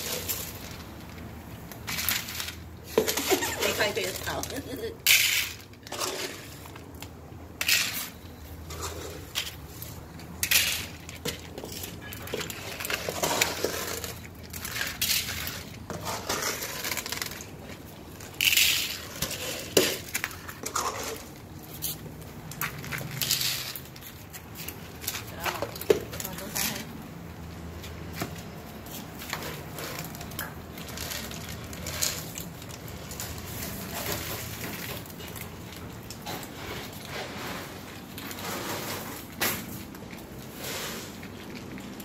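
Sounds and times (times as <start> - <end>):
kibble poured into plastic trays: 0.0 - 22.0, 22.6 - 26.8, 28.8 - 42.0
cats crunching kibble: 0.0 - 42.0.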